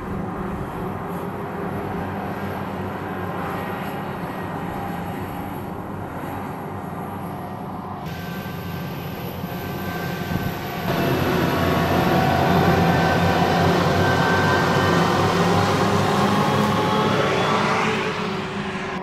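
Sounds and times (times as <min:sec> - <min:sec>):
harvester engine drone: 0:00.0 - 0:19.0.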